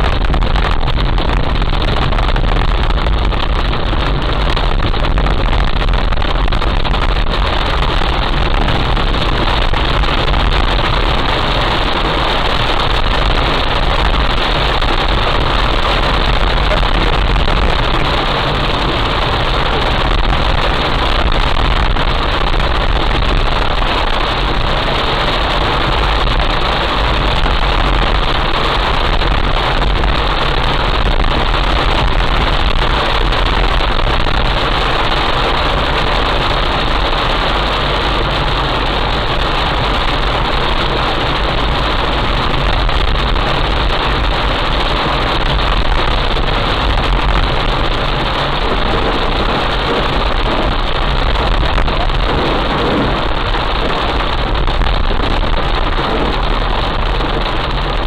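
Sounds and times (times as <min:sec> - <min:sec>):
heavy rain falling: 0:00.0 - 0:58.0
low rumble: 0:00.0 - 0:58.0.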